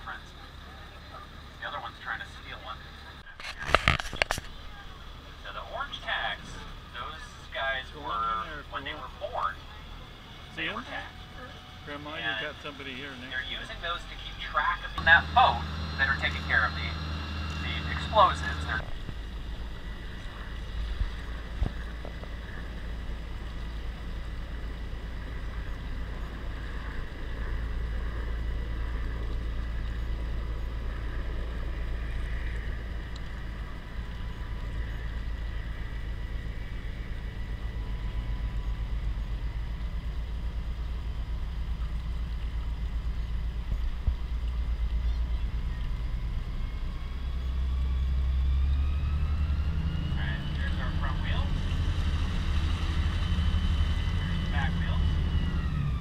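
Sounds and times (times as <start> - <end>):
faint steady whine: 0.0 - 56.0
vehicle engine droning: 0.0 - 56.0.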